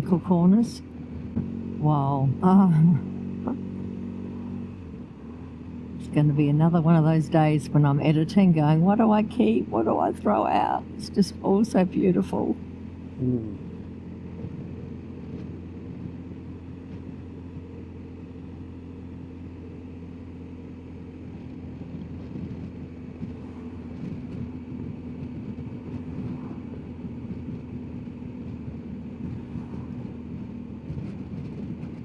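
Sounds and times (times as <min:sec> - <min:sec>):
motorcycle engine running: 0:00.0 - 0:32.0
wind and road noise: 0:00.0 - 0:32.0.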